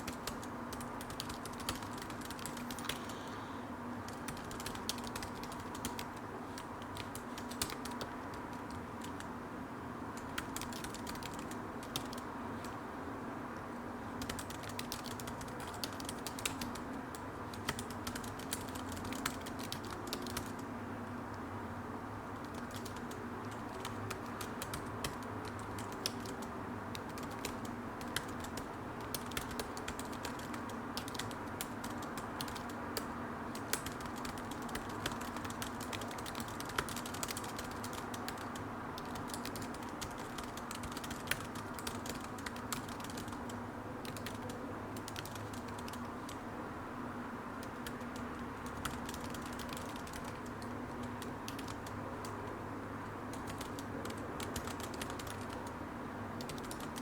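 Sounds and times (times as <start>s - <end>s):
keyboard typing: 0.0s - 3.3s, 4.1s - 9.3s, 10.2s - 12.8s, 14.2s - 20.6s, 22.4s - 46.4s, 47.6s - 55.8s, 56.4s - 57.0s.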